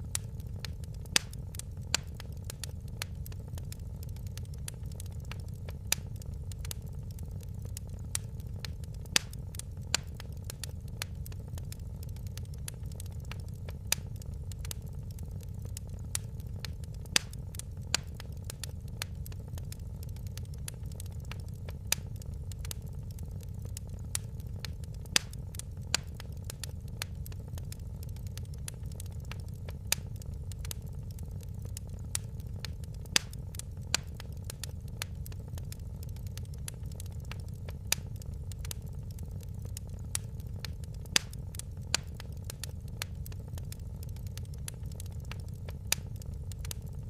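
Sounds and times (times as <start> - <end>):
flames rumbling: 0.0 - 47.0
wood fire popping and snapping: 0.0 - 47.0.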